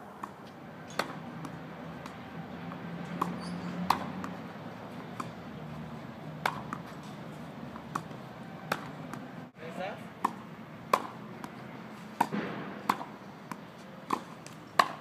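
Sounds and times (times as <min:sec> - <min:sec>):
tennis balls struck by rackets: 0:00.1 - 0:15.0
ball bouncing on clay court: 0:00.2 - 0:05.4, 0:06.3 - 0:09.3, 0:10.2 - 0:15.0.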